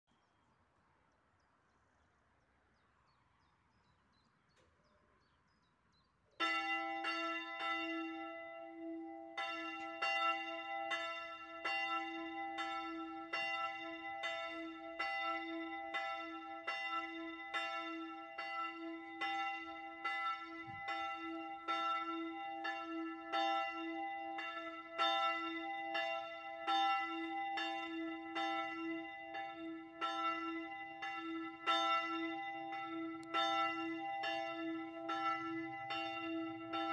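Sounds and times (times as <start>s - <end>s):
church bell ringing: 6.4s - 36.9s.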